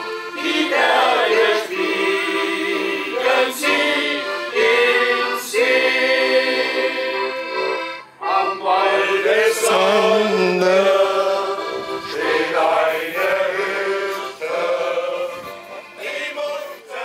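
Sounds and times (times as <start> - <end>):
men's choir singing slow song: 0.3 - 17.0.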